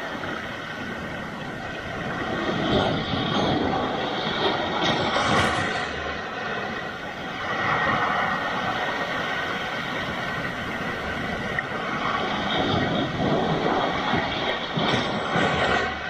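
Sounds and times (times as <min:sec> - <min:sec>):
sea waves breaking on rocks: 0:00.0 - 0:16.0.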